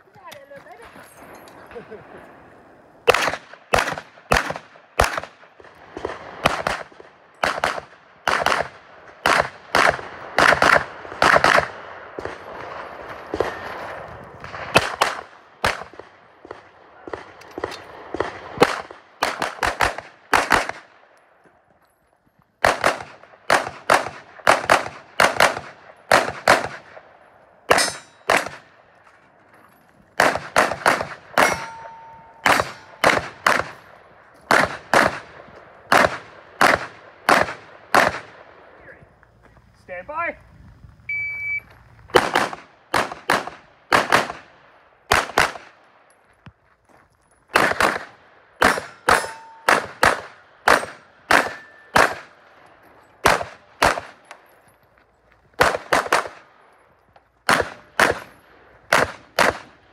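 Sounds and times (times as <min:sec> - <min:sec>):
carbine gunshots with echo: 0:01.2 - 0:21.4, 0:22.6 - 0:29.4, 0:30.0 - 0:39.0, 0:42.1 - 0:46.2, 0:47.5 - 0:54.6, 0:55.4 - 0:59.9.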